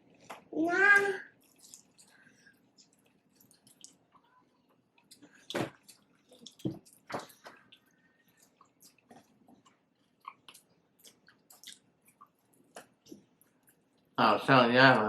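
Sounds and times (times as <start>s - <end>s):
chewing with mouth smacks: 1.3s - 14.2s.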